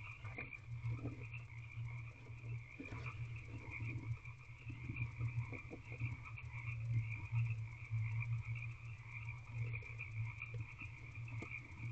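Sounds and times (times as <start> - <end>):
frogs croaking: 0.0 - 11.9.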